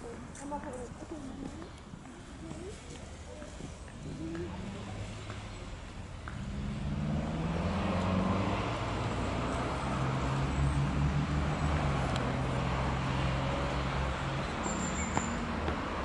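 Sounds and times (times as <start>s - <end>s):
traffic engine hum: 0.0s - 16.0s.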